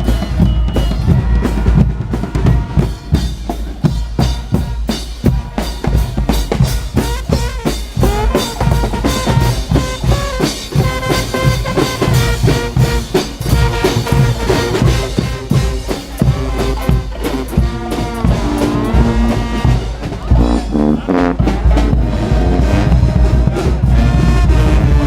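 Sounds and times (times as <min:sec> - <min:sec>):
bass drum and snare beat: 0:00.0 - 0:25.0
brass notes: 0:00.0 - 0:25.0.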